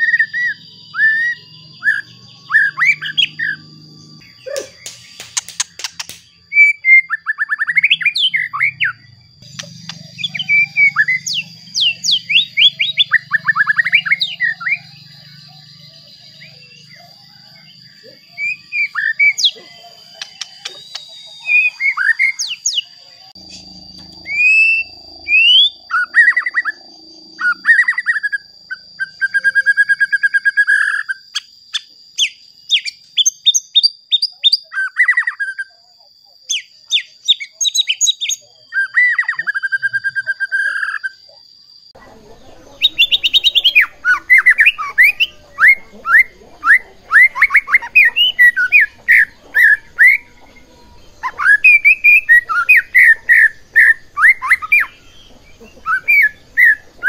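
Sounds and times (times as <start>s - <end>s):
songbird whistled song: 0.0s - 57.0s.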